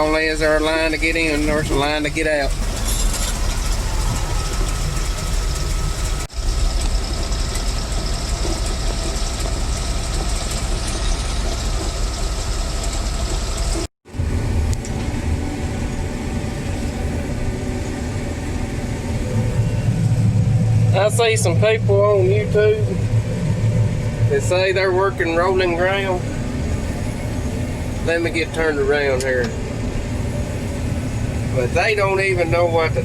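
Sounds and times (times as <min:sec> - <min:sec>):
farm vehicle engine running: 0:00.0 - 0:33.0.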